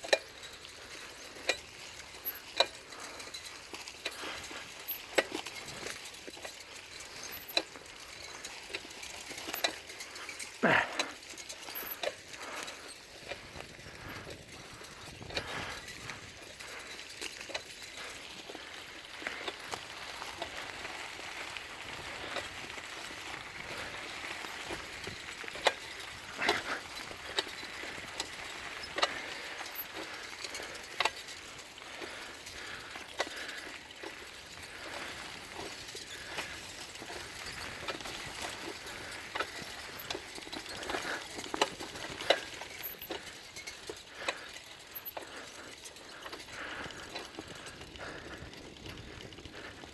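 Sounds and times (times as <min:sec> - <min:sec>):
bicycle clicks and rattles: 0:00.0 - 0:49.9
bicycle tyres rolling: 0:00.0 - 0:49.9.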